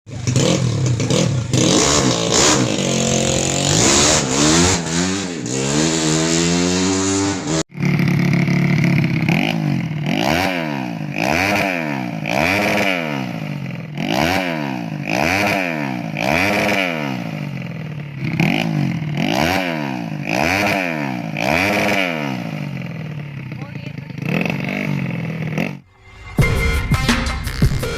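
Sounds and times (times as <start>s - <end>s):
motorcycle engine revving: 0.1s - 26.2s.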